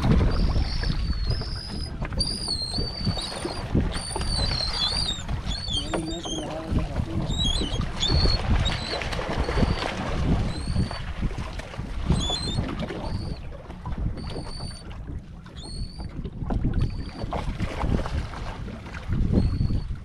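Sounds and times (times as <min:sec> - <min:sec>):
water against boat hull: 0:00.0 - 0:20.0
wind buffeting microphone: 0:00.0 - 0:20.0.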